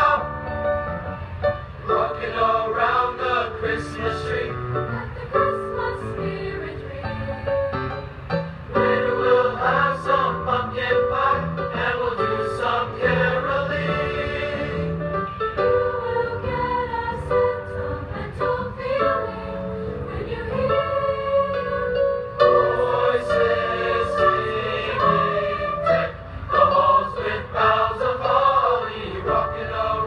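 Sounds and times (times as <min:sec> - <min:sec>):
choir singing in harmony: 0:00.0 - 0:01.0, 0:01.8 - 0:07.8, 0:08.6 - 0:30.0.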